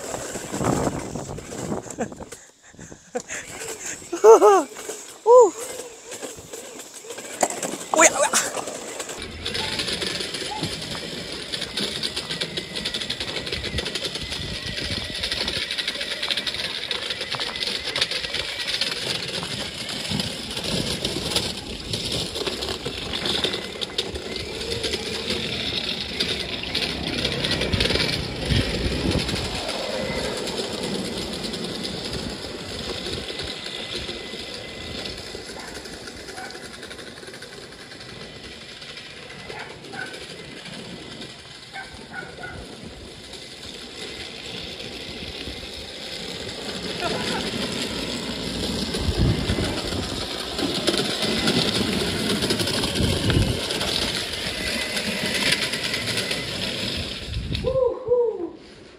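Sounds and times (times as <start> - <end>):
small motorbike engine rattling: 0.0 - 57.7.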